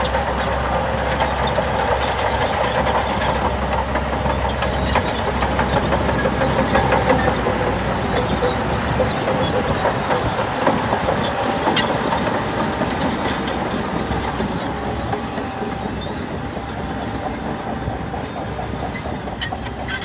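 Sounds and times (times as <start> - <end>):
diesel machinery running: 0.0 - 20.0.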